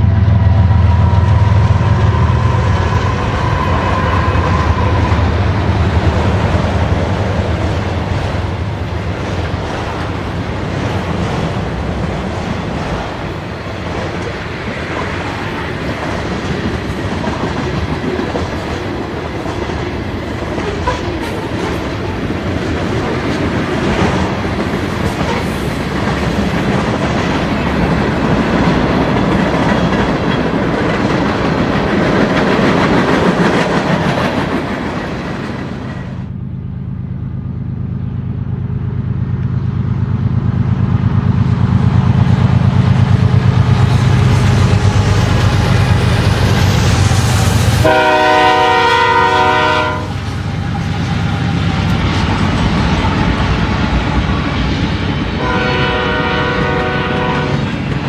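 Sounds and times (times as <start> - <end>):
diesel locomotives droning: 0.0 - 58.0
freight train wheels on rails: 0.0 - 58.0.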